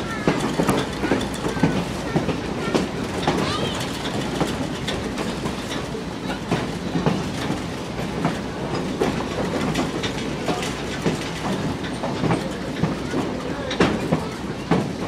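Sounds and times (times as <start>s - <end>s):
train car rumbling: 0.0s - 15.0s
wheels clicking over rails: 0.0s - 15.0s.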